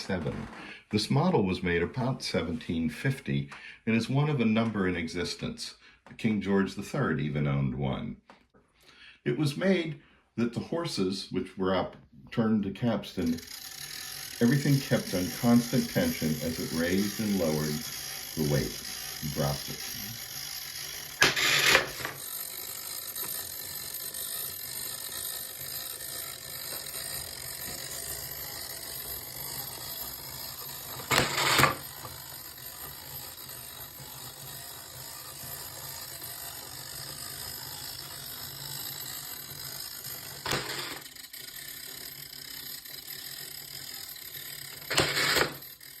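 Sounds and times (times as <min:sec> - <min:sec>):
gearing mechanical running noise: 0:00.0 - 0:05.6, 0:10.5 - 0:46.0.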